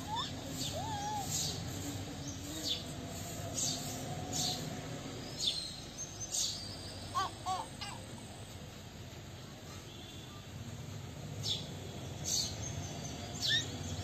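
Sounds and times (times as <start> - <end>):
small birds chirping: 0.0 - 8.8, 11.4 - 14.0
steady low background noise: 0.0 - 14.0.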